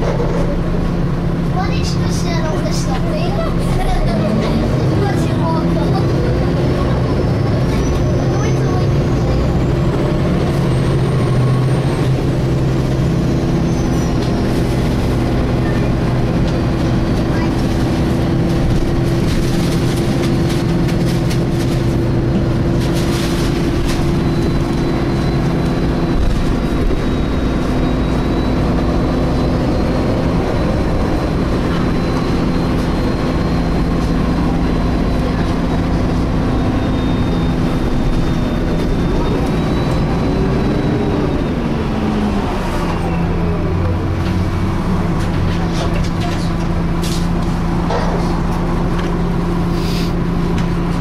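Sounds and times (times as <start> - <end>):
bus engine drone: 0.0 - 51.0.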